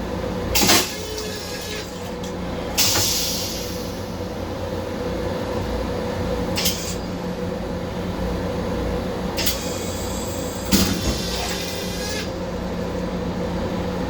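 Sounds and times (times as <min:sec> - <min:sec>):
ventilation fan hum: 0:00.0 - 0:14.0.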